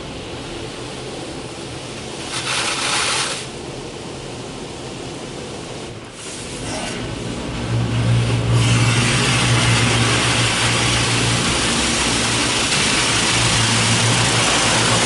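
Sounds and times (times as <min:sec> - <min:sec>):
car wash hum: 0:00.0 - 0:15.0
water spraying on car: 0:00.0 - 0:15.0.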